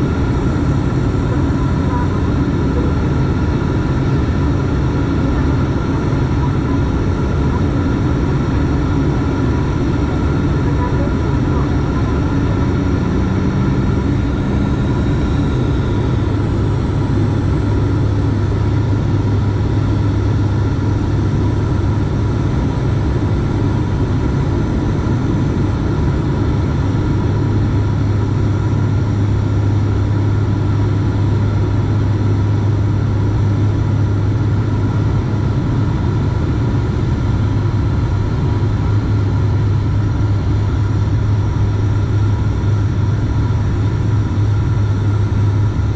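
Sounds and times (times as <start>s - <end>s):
turboprop engines droning in cabin: 0.0s - 45.9s.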